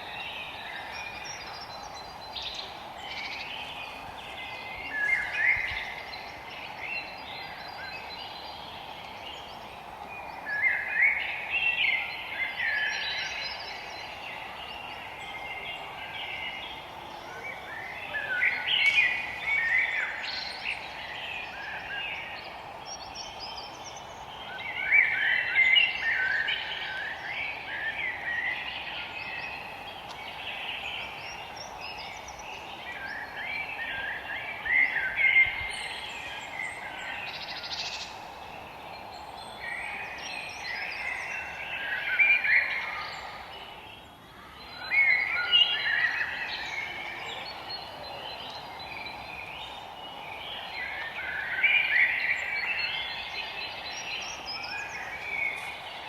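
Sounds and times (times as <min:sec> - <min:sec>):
songbird singing: 0:00.0 - 0:56.0
steady background hiss: 0:00.0 - 0:56.0.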